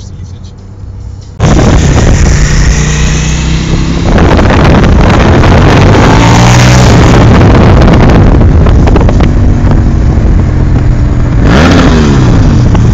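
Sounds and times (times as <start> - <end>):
motorcycle engine rumbling: 0.0 - 12.9.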